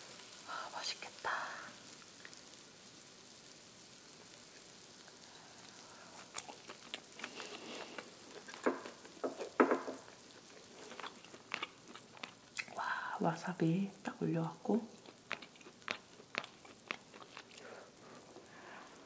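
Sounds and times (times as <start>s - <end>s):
meat sizzling on a griddle: 0.0s - 12.6s, 13.2s - 19.0s.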